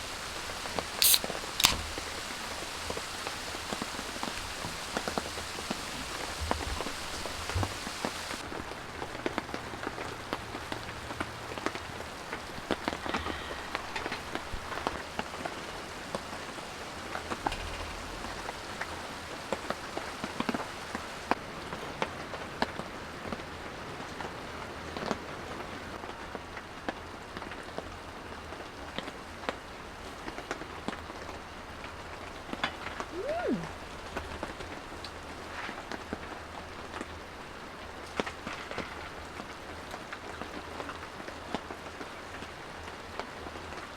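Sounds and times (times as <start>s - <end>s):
rain falling: 0.0s - 43.9s.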